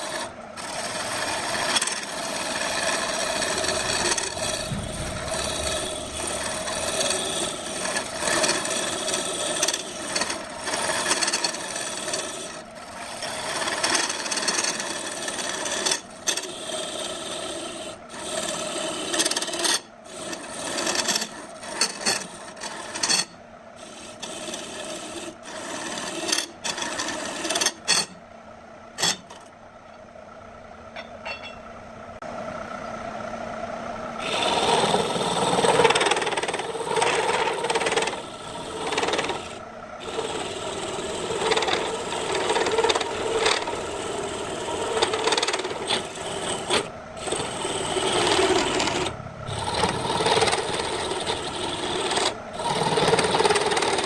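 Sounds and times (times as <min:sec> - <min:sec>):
gouge scraping wood on lathe: 0:00.0 - 0:28.2, 0:29.0 - 0:29.5, 0:34.2 - 0:54.0
faint electric motor hum: 0:00.0 - 0:54.0.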